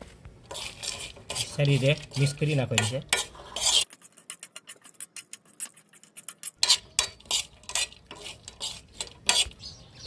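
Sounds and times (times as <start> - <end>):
spoon scraping a pan: 0.5 - 9.8.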